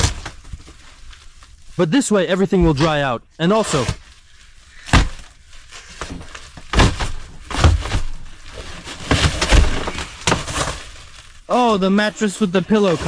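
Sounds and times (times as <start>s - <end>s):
bedding rustling: 0.0s - 13.0s.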